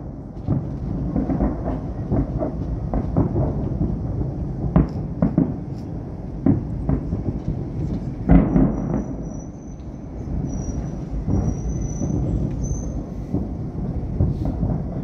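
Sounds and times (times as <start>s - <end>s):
distant fireworks booming: 0.0s - 15.0s
sharp firework reports: 0.0s - 15.0s.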